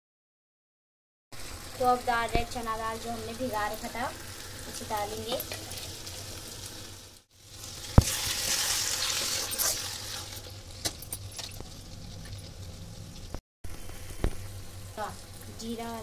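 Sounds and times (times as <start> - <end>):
food sizzling in a pan: 1.4 - 16.0.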